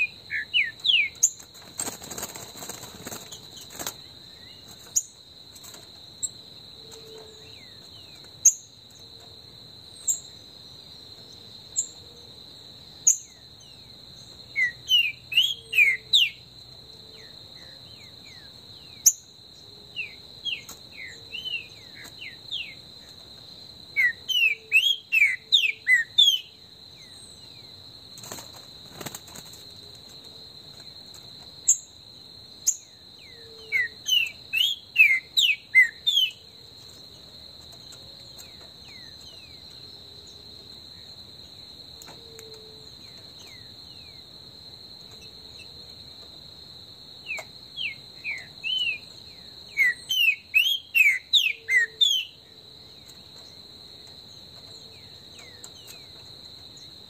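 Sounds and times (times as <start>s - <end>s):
high insect trill: 0.0s - 57.0s.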